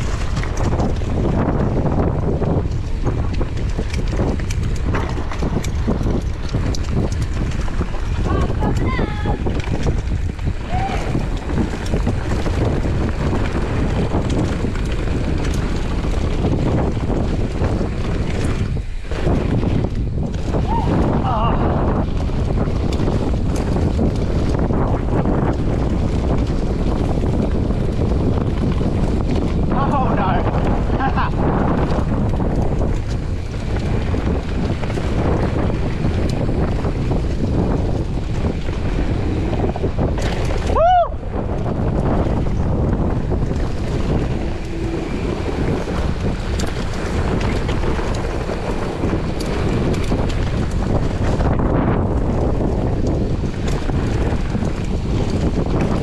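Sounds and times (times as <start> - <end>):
bike clicks and rattles: 0.0 - 56.0
bike tyres rolling on dirt: 0.0 - 56.0
wind buffeting microphone: 0.0 - 56.0.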